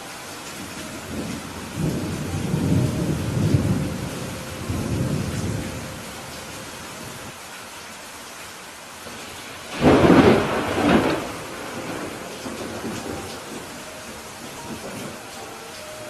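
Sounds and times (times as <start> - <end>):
steady rain: 0.0 - 16.0
low rumble of thunder: 0.6 - 7.4, 9.1 - 15.4.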